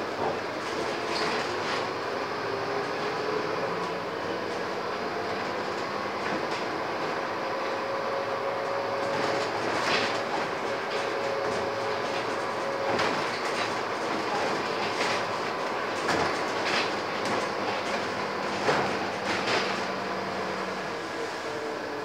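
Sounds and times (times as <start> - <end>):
bus body rattling: 0.0 - 22.0
bus diesel engine running: 0.0 - 22.0
bus knocking over road: 0.0 - 22.0.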